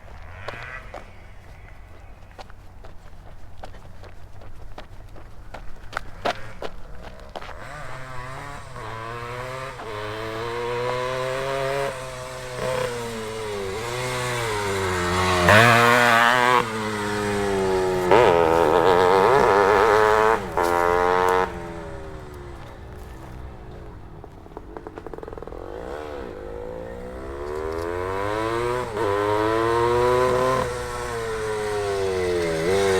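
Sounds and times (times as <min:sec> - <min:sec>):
two-stroke motorcycle engine revving: 0:00.0 - 0:01.5, 0:06.2 - 0:32.9.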